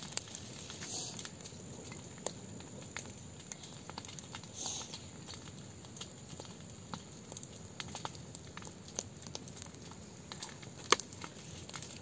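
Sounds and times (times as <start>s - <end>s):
burning grass crackling: 0.0s - 12.0s.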